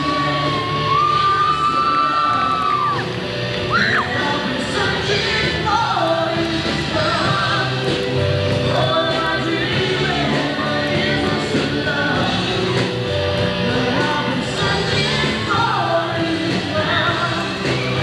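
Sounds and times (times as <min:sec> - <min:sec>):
person singing: 0:00.0 - 0:18.0
rock band playing live: 0:00.0 - 0:18.0
steady bass notes: 0:00.0 - 0:18.0.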